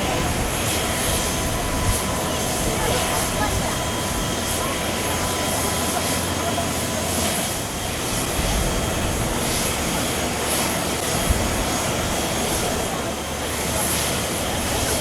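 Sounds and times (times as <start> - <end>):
jet engine rumble with whine: 0.0 - 15.0.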